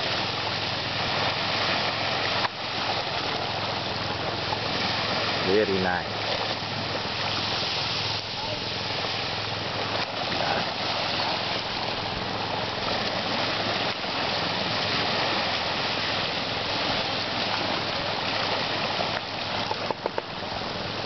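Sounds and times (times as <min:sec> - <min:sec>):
small waves washing on shore: 0:00.0 - 0:21.0.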